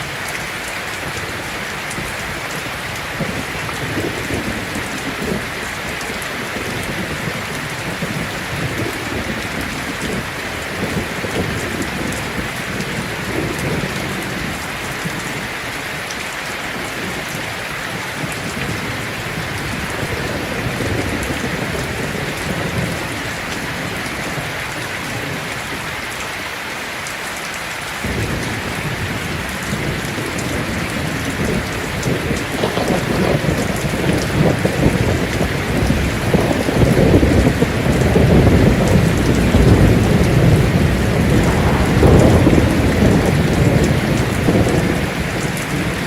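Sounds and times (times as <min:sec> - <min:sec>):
thunder rumbling: 0:00.0 - 0:15.6, 0:16.7 - 0:25.9, 0:28.0 - 0:46.0
heavy rain on a tin roof: 0:00.0 - 0:46.0.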